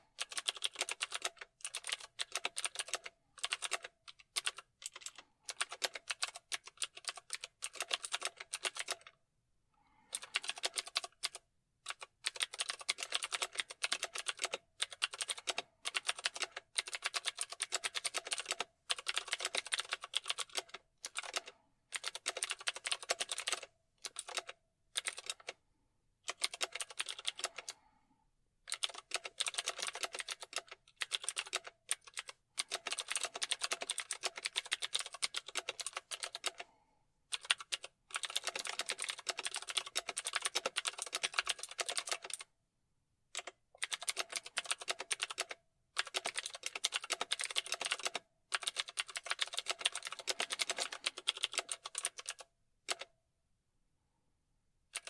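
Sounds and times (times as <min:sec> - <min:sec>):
keyboard typing: 0:00.0 - 0:09.2, 0:10.1 - 0:25.6, 0:26.3 - 0:27.8, 0:28.7 - 0:42.5, 0:43.4 - 0:53.1.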